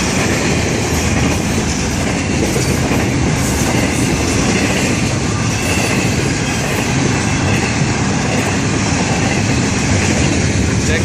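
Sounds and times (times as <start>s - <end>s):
freight cars rumbling on rails: 0.0s - 11.0s.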